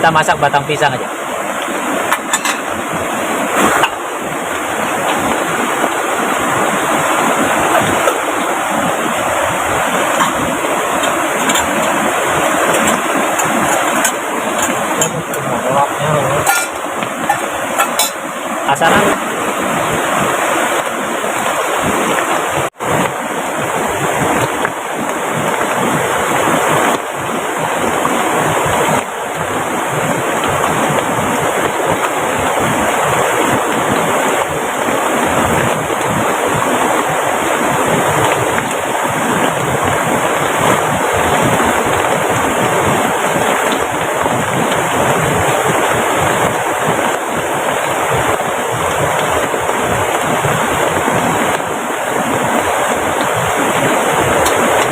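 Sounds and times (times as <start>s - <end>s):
heavy downpour: 0.0s - 54.9s
rushing river: 0.0s - 54.9s.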